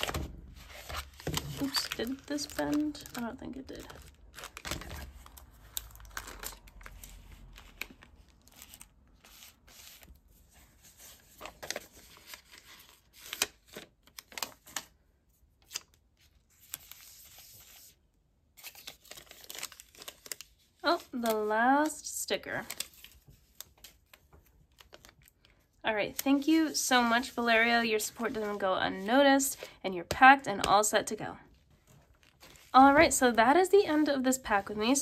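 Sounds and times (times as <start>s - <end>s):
plastic mailer crinkling: 0.0s - 15.0s, 18.6s - 35.0s.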